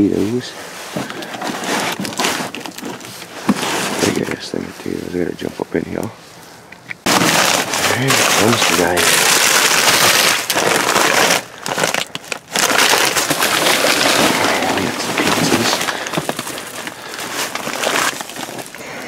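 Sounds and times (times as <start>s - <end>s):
plastic bags crinkling: 0.0s - 5.0s, 7.0s - 19.0s.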